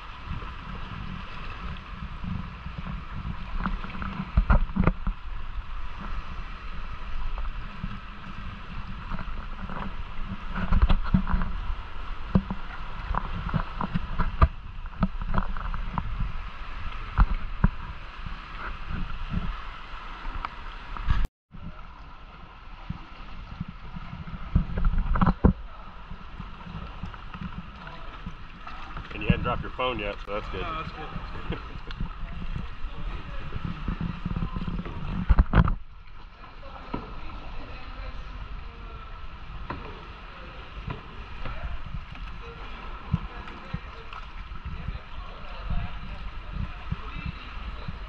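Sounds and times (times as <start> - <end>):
paddle splashes and knocks: 0.0 - 48.0
water sloshing against hull: 0.0 - 48.0.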